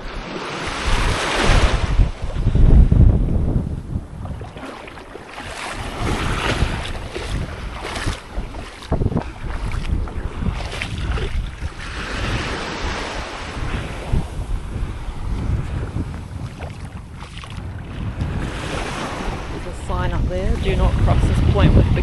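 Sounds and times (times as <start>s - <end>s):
sea waves washing onto beach: 0.0s - 22.0s
wind buffeting microphone: 0.0s - 22.0s.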